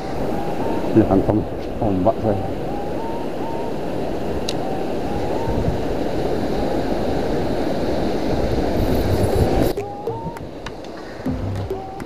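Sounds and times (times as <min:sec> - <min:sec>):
sea surf breaking: 0:00.0 - 0:12.0
wind on microphone: 0:00.0 - 0:12.0.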